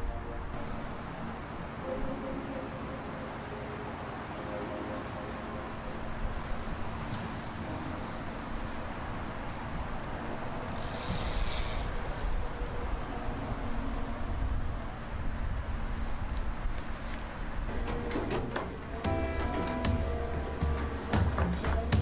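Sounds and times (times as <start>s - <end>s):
low rumble of distant vehicles: 0.0s - 22.0s.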